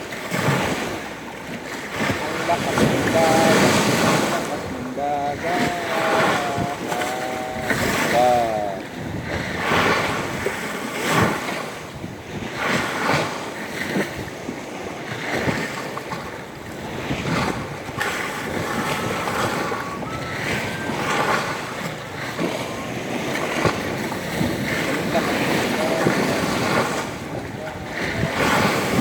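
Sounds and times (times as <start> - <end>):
waves surging and splashing: 0.0 - 29.0
wind buffeting microphone: 0.0 - 29.0.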